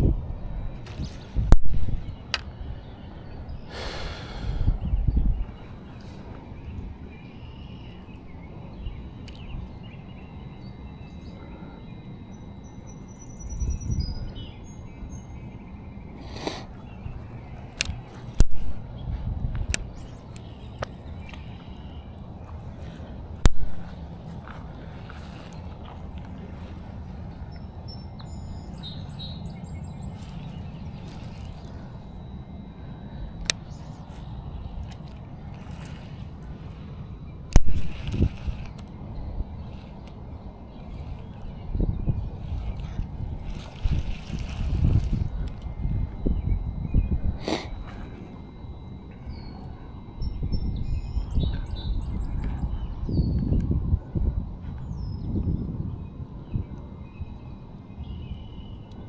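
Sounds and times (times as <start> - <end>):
water: 0.0 - 57.8
steady low rumble: 0.0 - 59.0
wind: 0.0 - 59.0
small birds chirping: 0.4 - 59.0.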